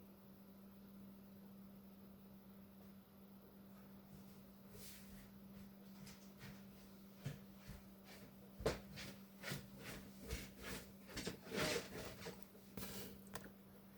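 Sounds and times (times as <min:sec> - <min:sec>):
electric furnace humming: 0:00.0 - 0:13.9.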